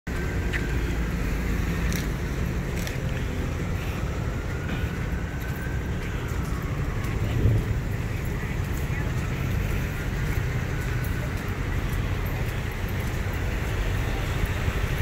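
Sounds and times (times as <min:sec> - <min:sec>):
road traffic rumble: 0:00.1 - 0:15.0.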